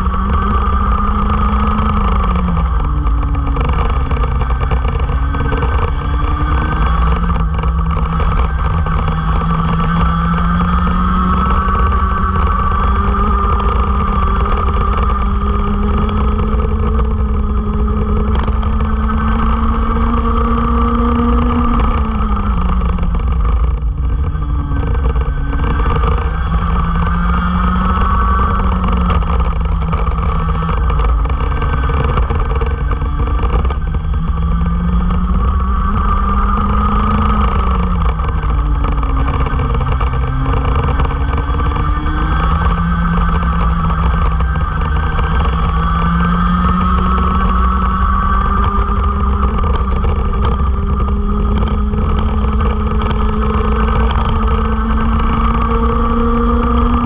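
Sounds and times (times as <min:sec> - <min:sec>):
kart engine revving: 0:00.0 - 0:57.0
wind rumble on microphone: 0:00.0 - 0:57.0.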